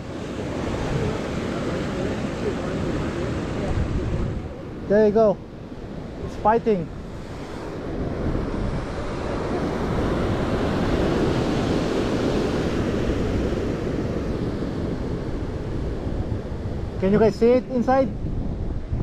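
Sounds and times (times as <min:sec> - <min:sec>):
ocean surf breaking: 0:00.0 - 0:19.0
wind on microphone: 0:00.0 - 0:19.0.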